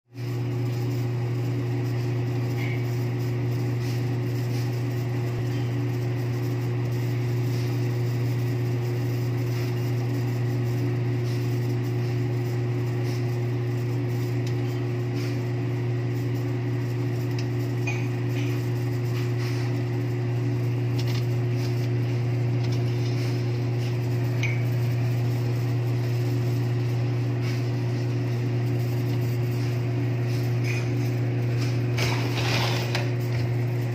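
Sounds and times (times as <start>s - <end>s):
incubator electric hum: 0.1s - 33.9s.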